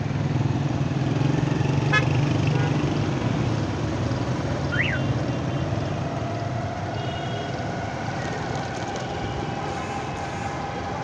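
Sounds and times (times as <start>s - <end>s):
motorcycle engine and road noise: 0.0s - 11.0s.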